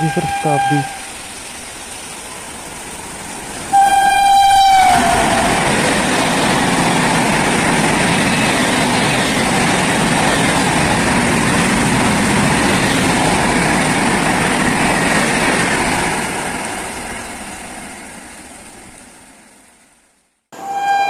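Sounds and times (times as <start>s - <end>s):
train coaches rushing past: 0.0s - 19.5s.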